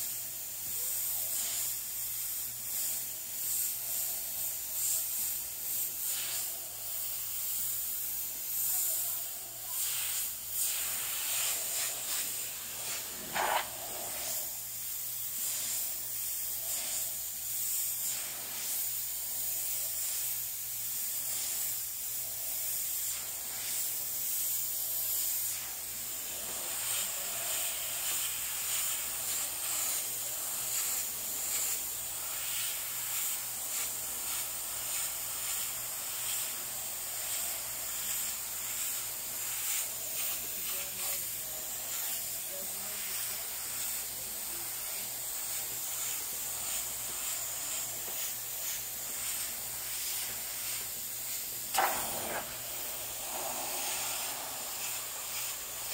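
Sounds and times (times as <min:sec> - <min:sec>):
airbrush hissing: 0:00.0 - 0:55.9.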